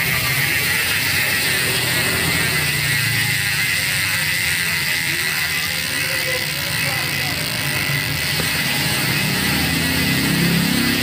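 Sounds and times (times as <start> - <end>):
bike hub ratcheting buzz: 0.0 - 11.0.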